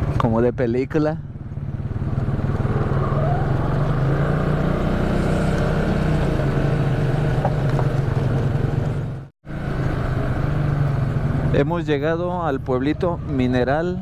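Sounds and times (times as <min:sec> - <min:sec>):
atv engine running: 0:01.2 - 0:14.0.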